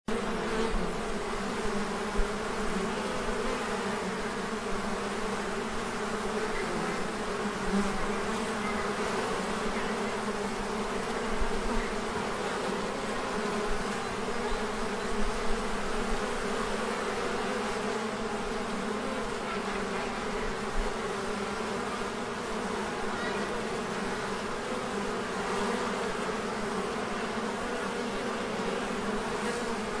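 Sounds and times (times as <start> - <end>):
bees buzzing: 0.1 - 30.0.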